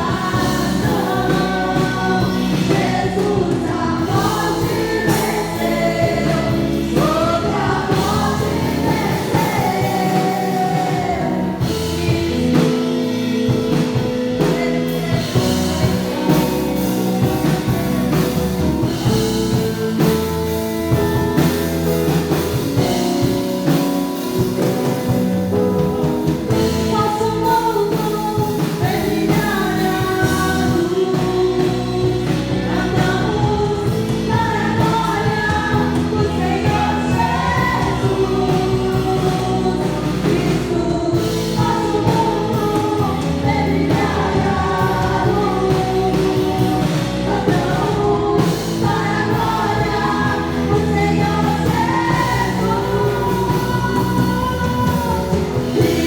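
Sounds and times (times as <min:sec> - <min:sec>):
band playing gospel music: 0:00.0 - 0:56.0
person singing: 0:00.0 - 0:56.0.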